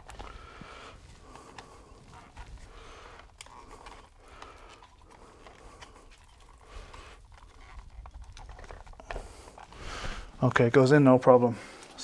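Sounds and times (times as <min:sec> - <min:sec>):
cable clicks and scuffs: 0:00.0 - 0:10.5.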